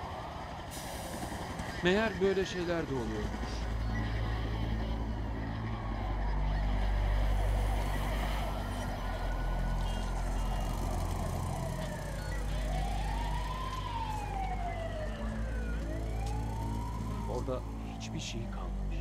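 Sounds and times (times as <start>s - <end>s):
emergency sirens wailing: 0.0s - 19.0s.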